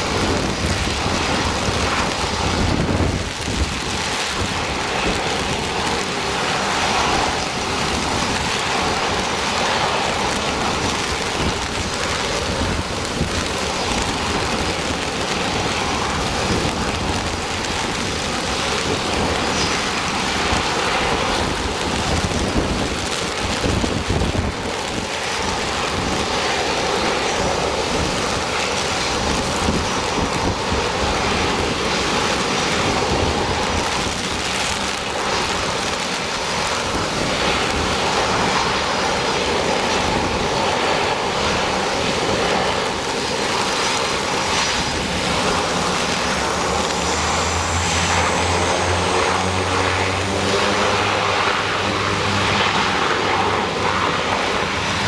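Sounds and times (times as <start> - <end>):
low propeller drone: 0.0 - 55.0
turboprop engines running: 0.0 - 55.0
wind on microphone: 0.0 - 55.0.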